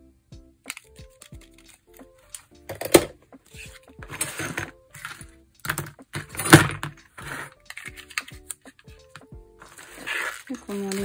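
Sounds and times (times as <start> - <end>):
craft materials rustling: 0.7 - 11.0.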